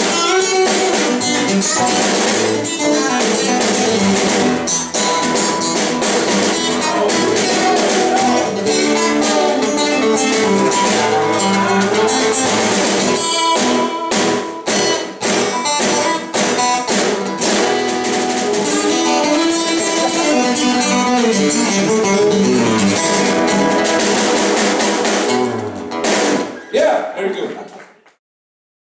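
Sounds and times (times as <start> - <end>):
acoustic guitars playing country: 0.0 - 26.8.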